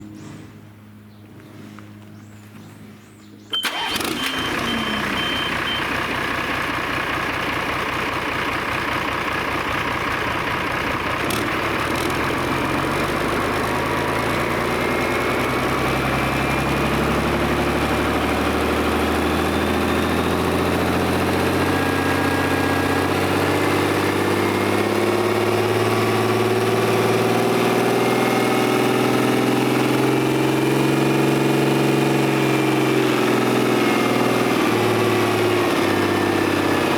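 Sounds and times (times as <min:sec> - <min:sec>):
diesel engine starting and idling: 0:03.4 - 0:36.9.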